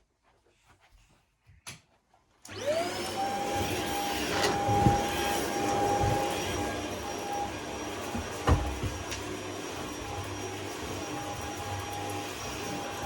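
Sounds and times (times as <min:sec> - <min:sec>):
vacuum cleaner knocking: 0:02.5 - 0:13.0
vacuum cleaner motor whine: 0:02.5 - 0:13.0.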